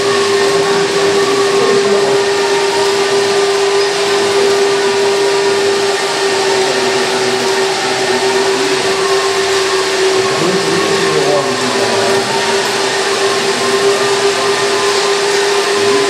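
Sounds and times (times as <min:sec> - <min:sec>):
model machine whine: 0:00.0 - 0:16.0.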